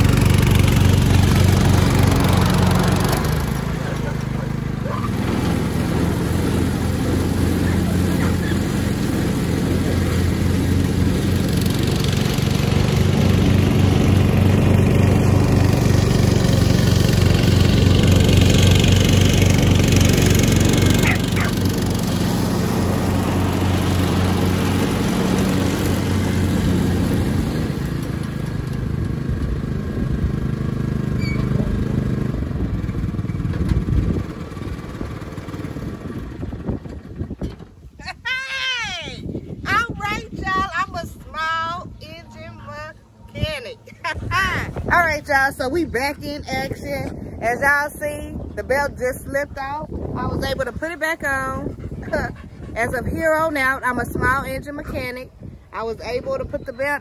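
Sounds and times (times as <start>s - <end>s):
riding lawnmower engine running: 0.0s - 57.0s.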